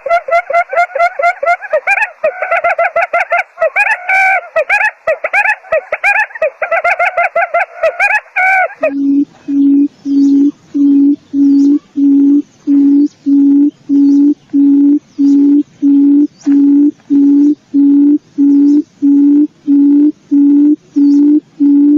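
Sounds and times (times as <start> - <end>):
bird low hooting call: 0.0 - 21.9.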